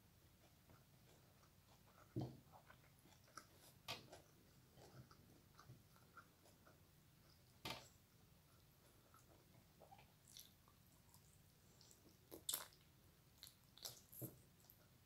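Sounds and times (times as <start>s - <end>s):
quiet chewing: 0.2s - 15.0s.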